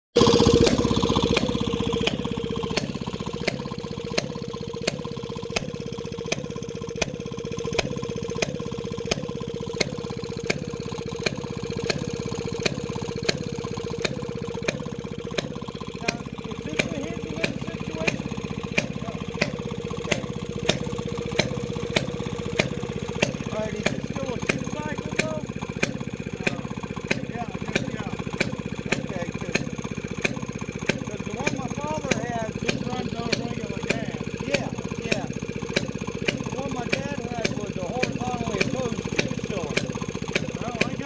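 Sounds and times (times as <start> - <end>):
small two-stroke engine running: 0.1 - 41.0
sharp engine cracks: 0.2 - 41.0.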